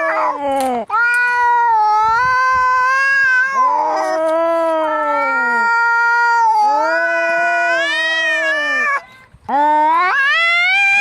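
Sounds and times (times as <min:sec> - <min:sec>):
cats caterwauling: 0:00.0 - 0:11.0.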